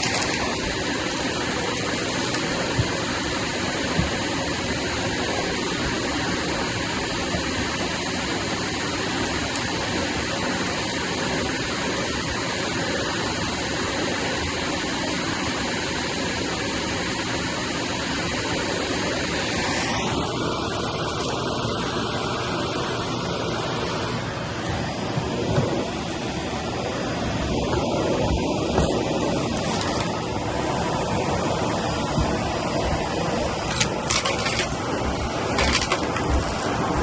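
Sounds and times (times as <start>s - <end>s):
vacuum cleaner running over carpet: 0.0s - 37.0s.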